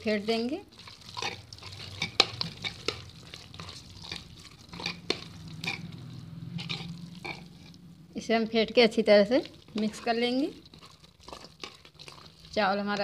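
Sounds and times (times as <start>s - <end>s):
metal ladle scraping pot: 0.3s - 7.8s, 9.5s - 13.0s.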